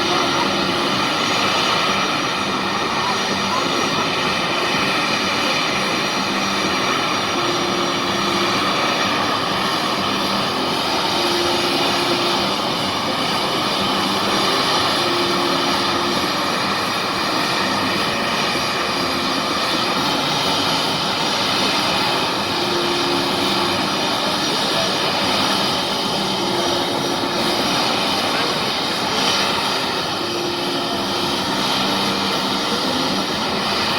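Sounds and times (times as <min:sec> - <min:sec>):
aircraft engine noise: 0:00.0 - 0:33.9.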